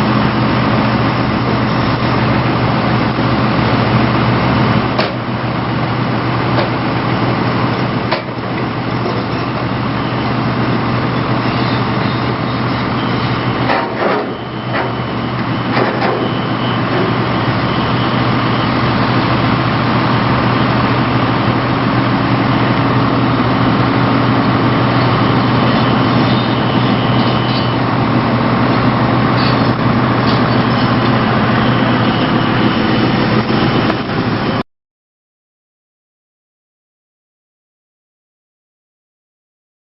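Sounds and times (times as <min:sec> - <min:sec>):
excavator engine: 0:00.0 - 0:34.6.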